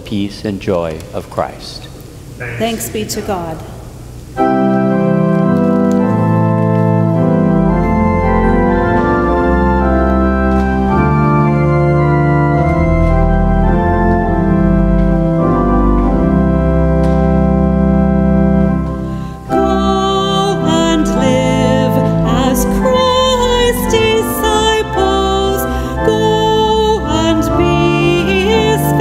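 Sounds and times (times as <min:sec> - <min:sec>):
organ playing slow chords: 0:02.3 - 0:29.0.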